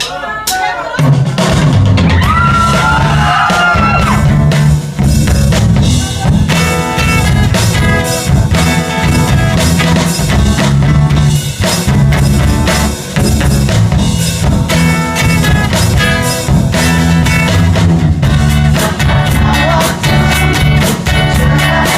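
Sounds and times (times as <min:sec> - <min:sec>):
band playing pop-rock song: 0:00.0 - 0:21.9.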